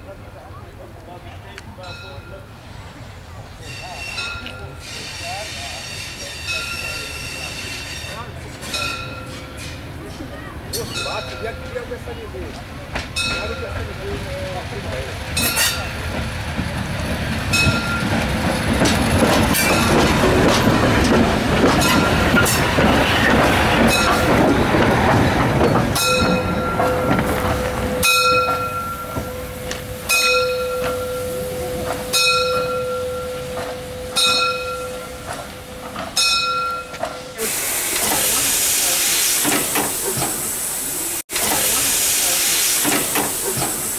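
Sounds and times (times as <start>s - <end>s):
steam locomotive rumble: 1.9s - 43.9s
wheels clicking on track: 8.4s - 43.9s.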